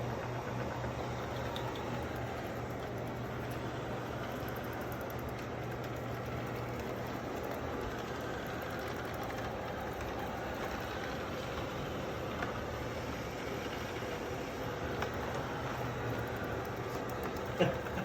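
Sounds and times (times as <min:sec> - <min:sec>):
robot vacuum cleaner running: 0:00.0 - 0:18.0.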